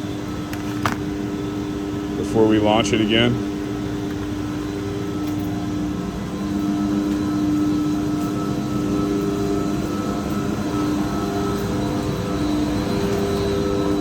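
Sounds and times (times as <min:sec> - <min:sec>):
pumps and motors droning: 0:00.1 - 0:14.0.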